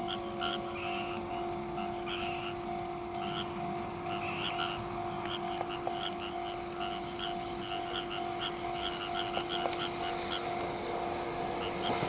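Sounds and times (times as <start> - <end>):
frogs calling: 0.0 - 12.0
steady low hum: 0.0 - 12.0.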